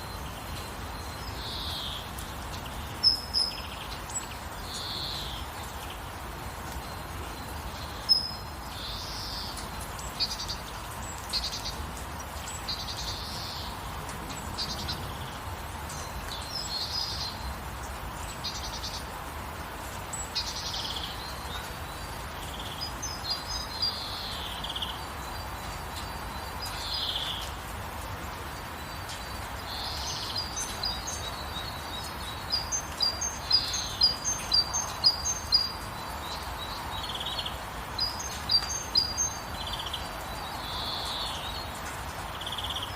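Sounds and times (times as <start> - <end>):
birds singing: 0.0 - 42.9
steady gentle rain: 0.0 - 42.9.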